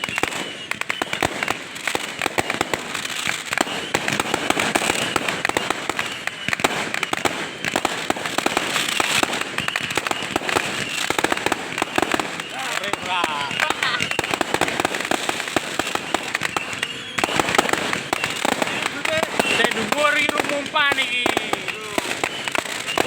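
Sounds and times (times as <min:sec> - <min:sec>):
fireworks cracking and popping: 0:00.0 - 0:23.0.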